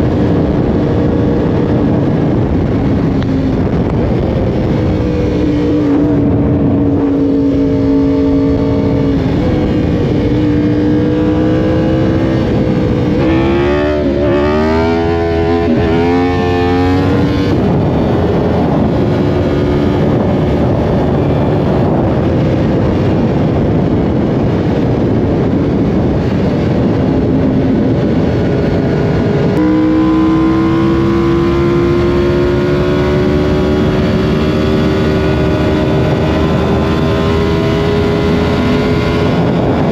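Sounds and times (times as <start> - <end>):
constant rushing noise: 0.0 - 39.9
motorcycle engine revving: 0.0 - 39.9.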